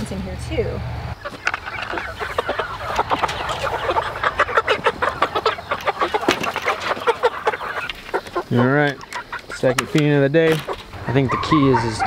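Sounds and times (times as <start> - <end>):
chickens clucking: 1.0 - 12.0.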